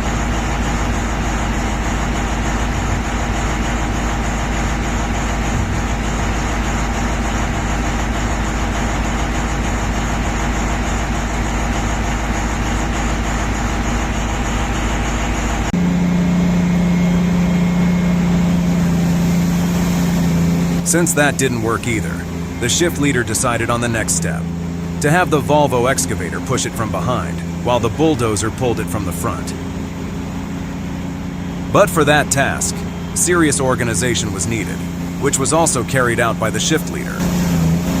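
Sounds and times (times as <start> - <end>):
heavy diesel machinery rumbling: 0.0 - 38.0.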